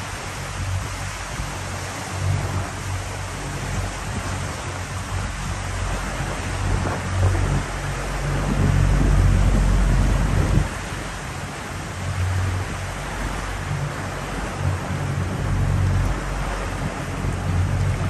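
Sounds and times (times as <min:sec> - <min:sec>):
outboard motor idling: 0:00.0 - 0:18.0
sea water washing around hull: 0:00.0 - 0:18.0.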